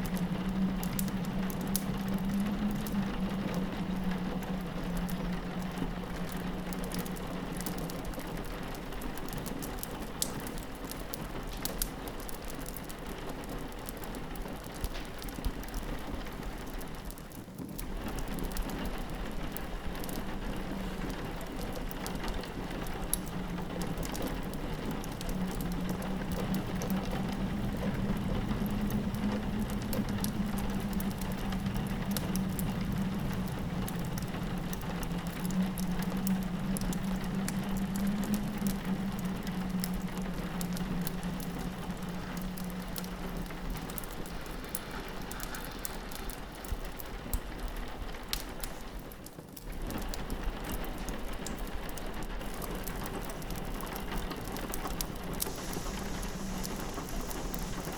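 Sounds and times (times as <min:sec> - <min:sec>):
low wind hum: 0:00.0 - 0:14.6, 0:17.8 - 0:49.1, 0:49.7 - 0:57.9
rain pattering on a window: 0:00.0 - 0:57.9
wood fire crackling: 0:00.0 - 0:57.9.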